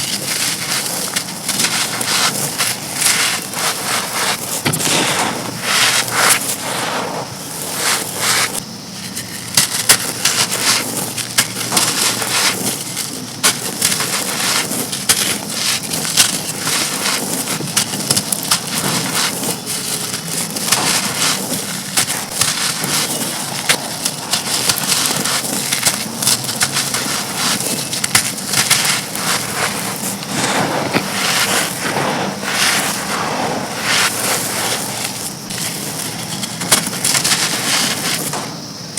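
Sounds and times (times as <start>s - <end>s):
bricks crunching and crumbling: 0.0s - 38.9s.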